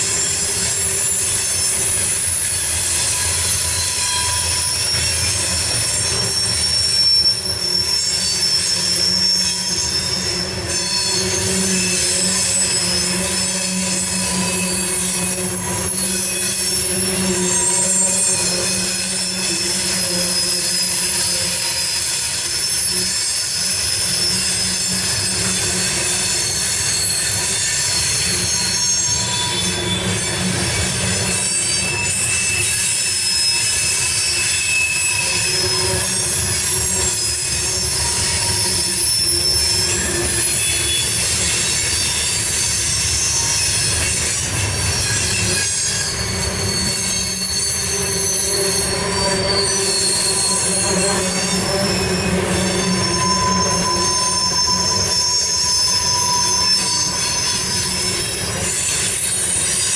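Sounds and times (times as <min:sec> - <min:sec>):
freight train rumble: 0:00.0 - 0:59.9
train wheels squealing: 0:00.0 - 0:59.9.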